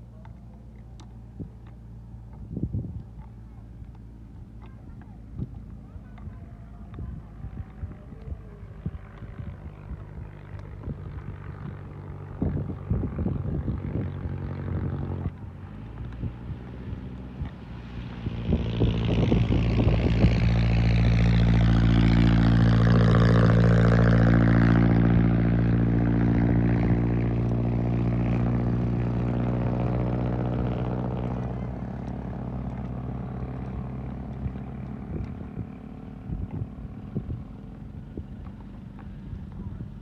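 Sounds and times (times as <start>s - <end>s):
motor engine passing by: 0.0s - 40.0s.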